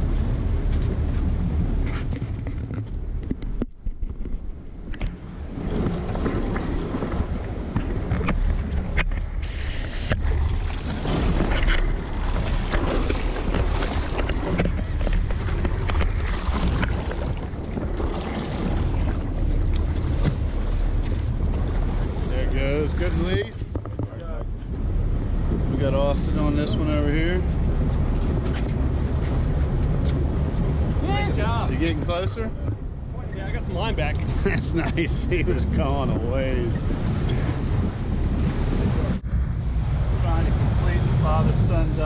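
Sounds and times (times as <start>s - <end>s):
water splashing against boat: 0.0s - 42.0s
wind rumbling on microphone: 0.0s - 42.0s.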